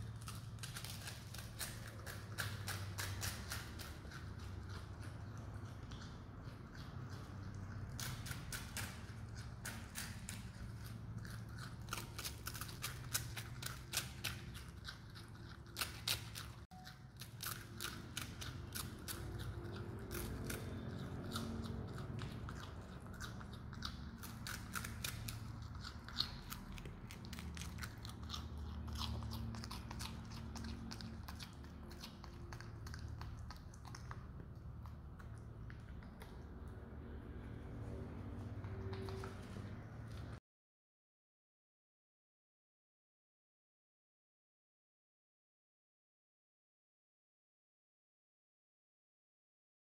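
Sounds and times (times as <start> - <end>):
marmot chewing cake: 0.0 - 40.4.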